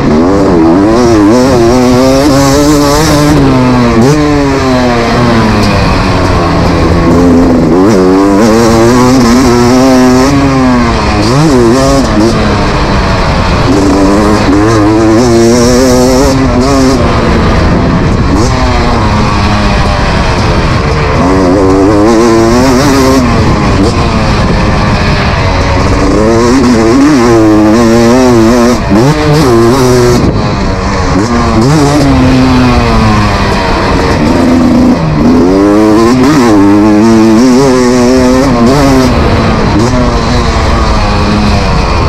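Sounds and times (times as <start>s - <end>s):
two-stroke motocross engine revving: 0.0s - 42.0s.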